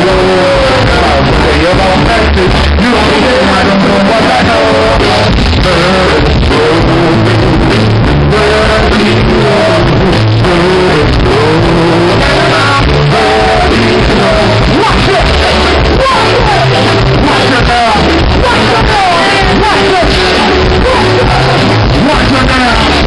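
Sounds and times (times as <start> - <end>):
live band playing: 0.0 - 23.0
person singing into microphone: 0.0 - 23.0.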